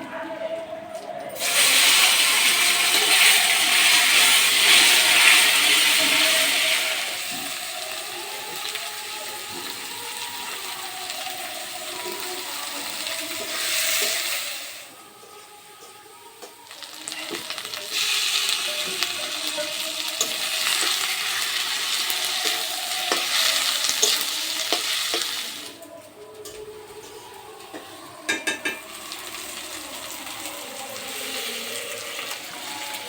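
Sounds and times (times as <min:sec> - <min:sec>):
food sizzling in hot oil: 0:01.4 - 0:15.0, 0:16.3 - 0:25.8, 0:27.6 - 0:33.0.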